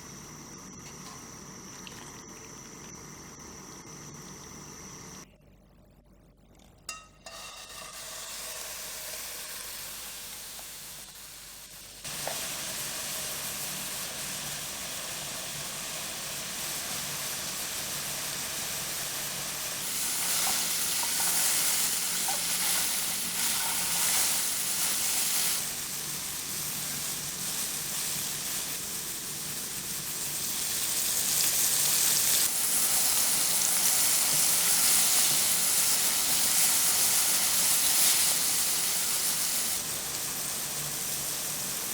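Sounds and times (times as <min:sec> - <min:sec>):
food sizzling in hot oil: 0:07.2 - 0:41.9.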